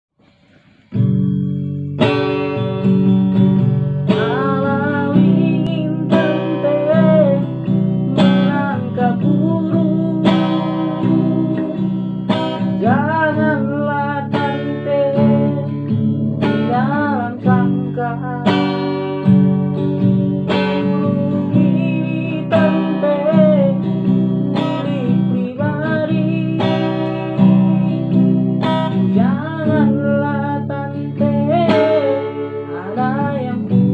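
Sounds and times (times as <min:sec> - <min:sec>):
acoustic guitar strumming: 0:00.2 - 0:33.9
person singing: 0:04.0 - 0:33.9.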